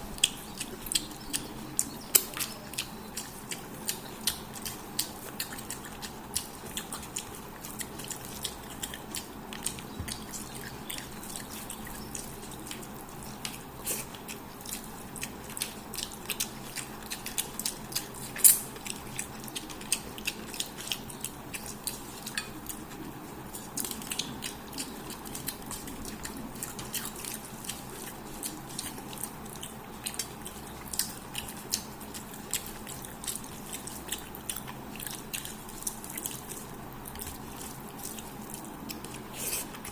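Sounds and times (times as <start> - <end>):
wet mouth smacks and chewing: 0.1 - 39.9.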